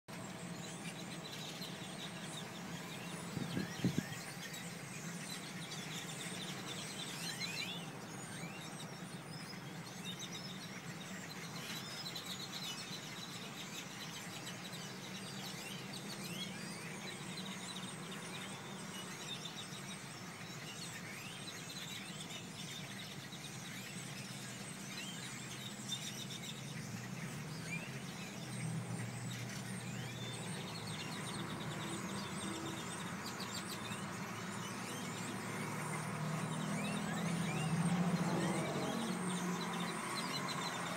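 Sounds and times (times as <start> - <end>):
flock of birds chirping: 0.1 - 40.9.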